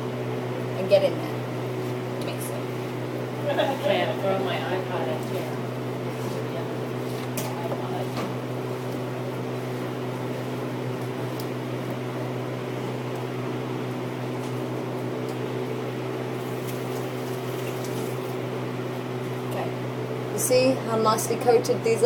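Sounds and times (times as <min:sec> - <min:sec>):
fan humming: 0:00.0 - 0:22.0.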